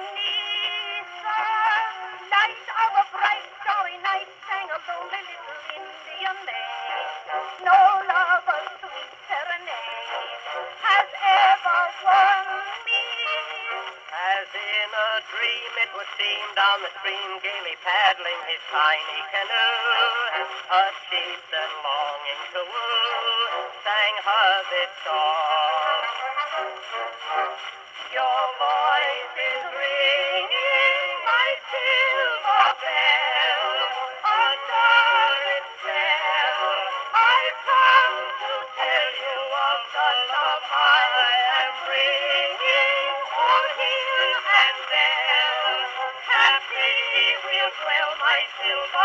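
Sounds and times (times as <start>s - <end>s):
old recording of vocal duet: 0.0s - 49.0s.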